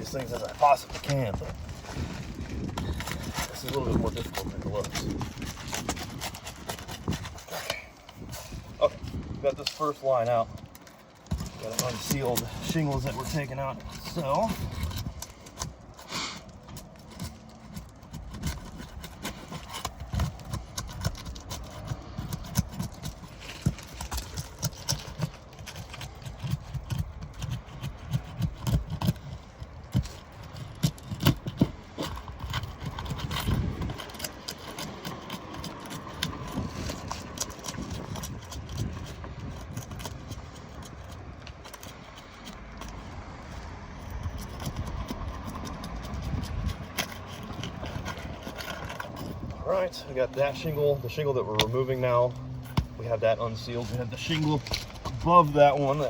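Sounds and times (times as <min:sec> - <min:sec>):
shingles being pried up: 0:00.0 - 0:49.6.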